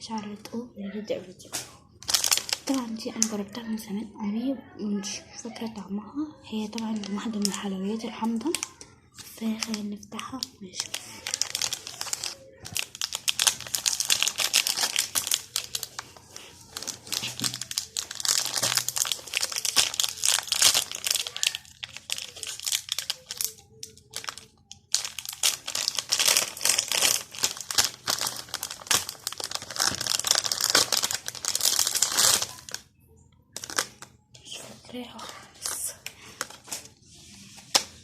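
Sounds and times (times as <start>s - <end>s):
candy wrapper crinkling: 2.0s - 3.5s, 6.6s - 32.9s, 33.5s - 38.0s.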